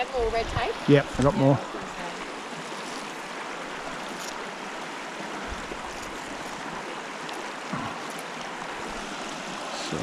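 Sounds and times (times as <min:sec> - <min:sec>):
stream flowing over rocks: 0:00.0 - 0:10.0.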